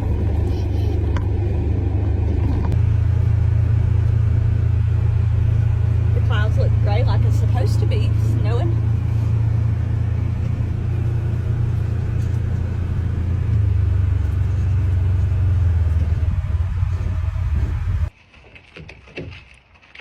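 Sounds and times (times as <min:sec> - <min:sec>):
car driving heard from inside: 0:00.0 - 0:18.1.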